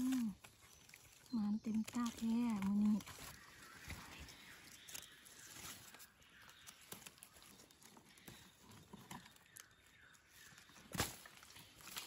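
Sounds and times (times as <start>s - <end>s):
rustling of dry leaves: 0.0s - 12.0s.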